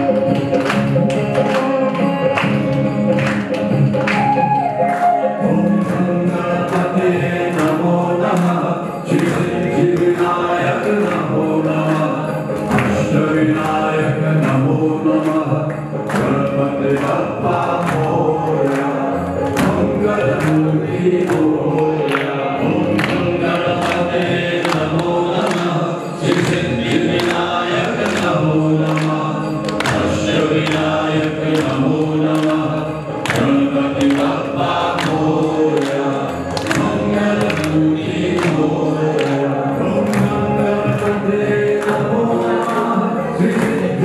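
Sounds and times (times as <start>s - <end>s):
group chanting in chorus: 0.0s - 44.0s
rhythmic hand clapping: 0.0s - 44.0s.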